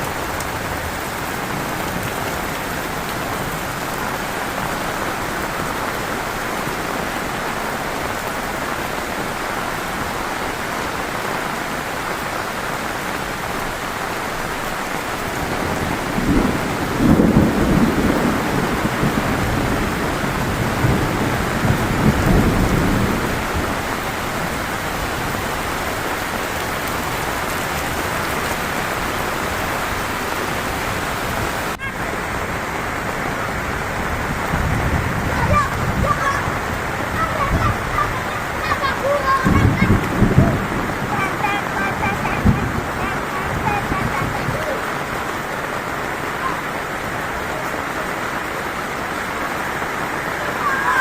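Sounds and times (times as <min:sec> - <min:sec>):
thunder rumbling: 0:00.0 - 0:47.7
heavy rain falling: 0:00.0 - 0:51.0.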